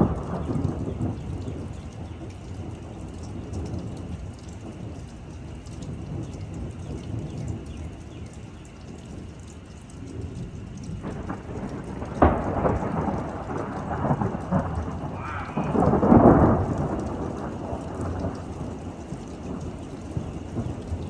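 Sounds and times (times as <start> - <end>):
steady rain: 0.0 - 21.0
thunder crack and rumble: 0.0 - 21.0.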